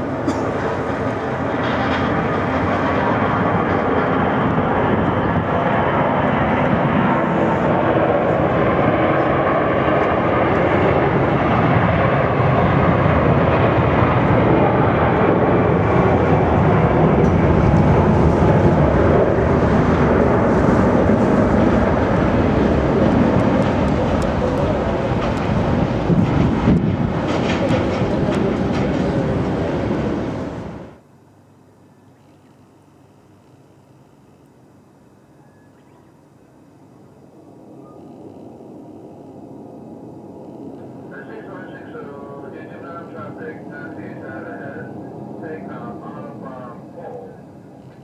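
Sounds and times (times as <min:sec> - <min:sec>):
jet engines roaring: 0:00.0 - 0:31.0, 0:36.8 - 0:48.0.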